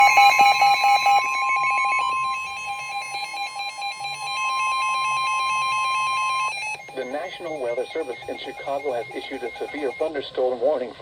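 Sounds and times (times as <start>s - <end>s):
fast pulsing electronic beeps: 0.0s - 10.2s
steady single-pitch alarm tone: 0.0s - 10.2s.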